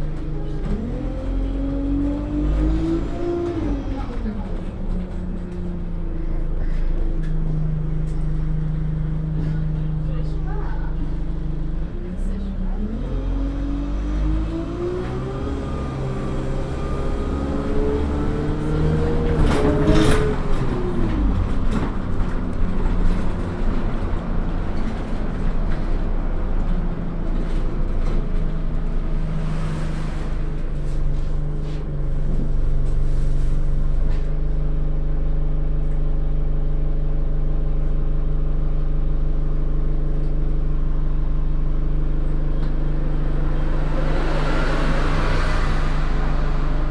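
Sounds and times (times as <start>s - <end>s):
bus engine and gearbox: 0.0s - 46.9s.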